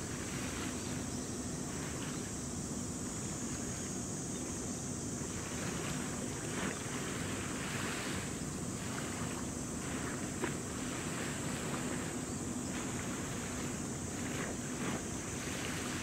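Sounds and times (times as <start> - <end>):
soft waves washing: 0.0 - 2.4, 5.2 - 16.0.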